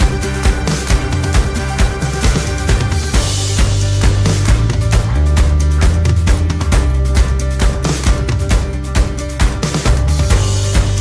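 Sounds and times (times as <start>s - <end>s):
steady drum beat: 0.0s - 11.0s
sustained bass line: 0.0s - 11.0s.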